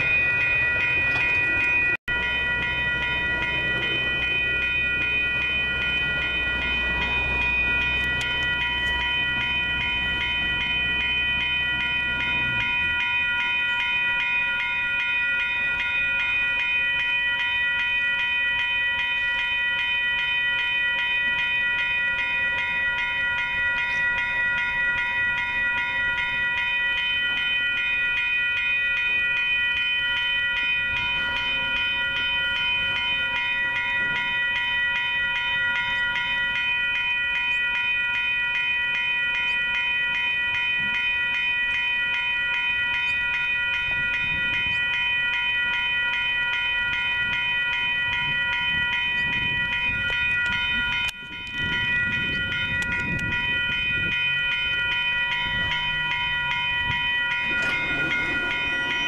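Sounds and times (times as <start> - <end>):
crossing warning bell ringing: 0.0 - 59.0.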